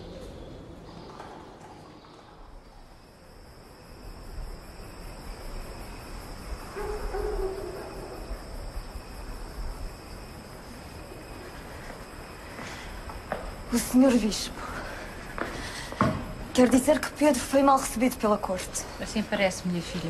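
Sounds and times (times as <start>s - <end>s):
low night-time rumble: 0.0s - 20.0s.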